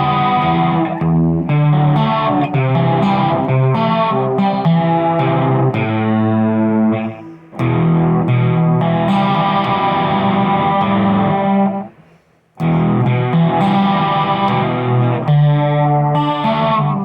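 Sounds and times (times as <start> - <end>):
electric guitar chords: 0.0 - 12.0, 12.6 - 17.0.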